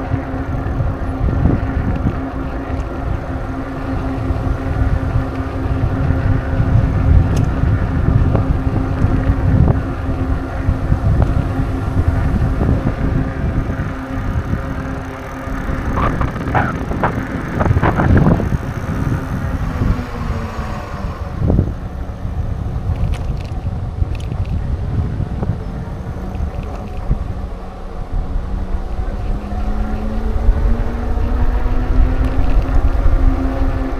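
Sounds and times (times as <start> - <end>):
steady hum: 0.0 - 30.9
wind rumbling over microphone: 0.0 - 33.9.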